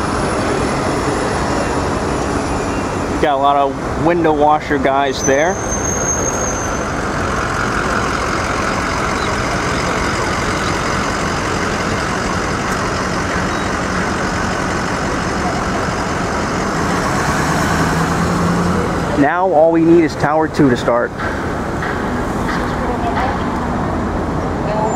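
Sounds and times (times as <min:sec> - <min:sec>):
street traffic noise: 0:00.0 - 0:24.9
vehicle engine running close: 0:00.0 - 0:24.9.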